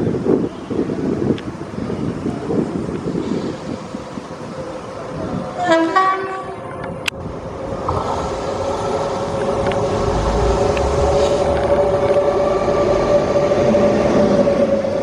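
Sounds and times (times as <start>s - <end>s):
locomotive hum: 0.1s - 15.0s.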